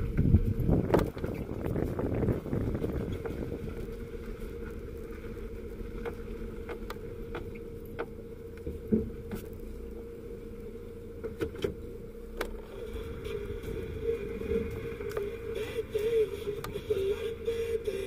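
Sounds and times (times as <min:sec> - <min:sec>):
engine and road hum: 0:00.0 - 0:18.0.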